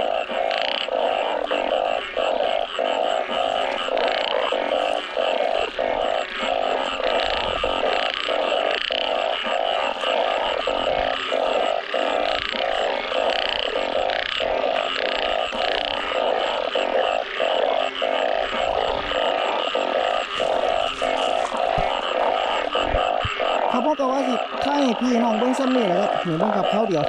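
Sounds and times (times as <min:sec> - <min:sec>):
chorus of frogs calling: 0:00.0 - 0:27.0.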